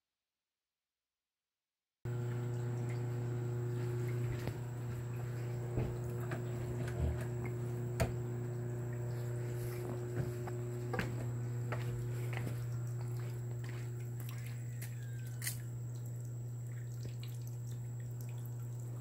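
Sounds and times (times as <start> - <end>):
low machine hum: 2.1 - 19.0.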